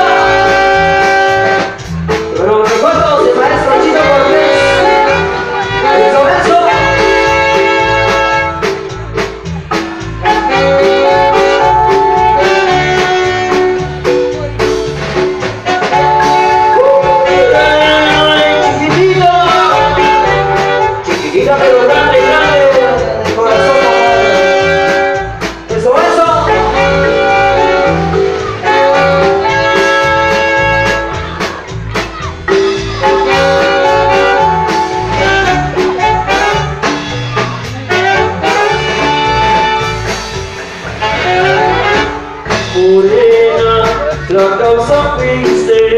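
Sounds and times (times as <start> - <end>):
live band with horns: 0.0 - 45.9
pulsing bass line: 0.0 - 45.9
sliding notes: 0.0 - 45.9.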